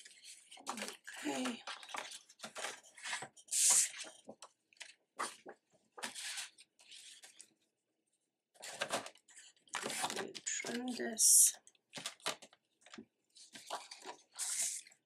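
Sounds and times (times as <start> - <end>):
paper rustling and scraping: 0.0 - 7.5, 8.6 - 11.0, 12.0 - 14.9.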